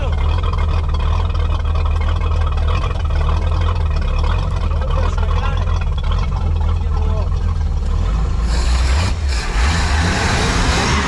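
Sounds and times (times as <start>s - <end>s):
boat engine running: 0.0s - 9.8s.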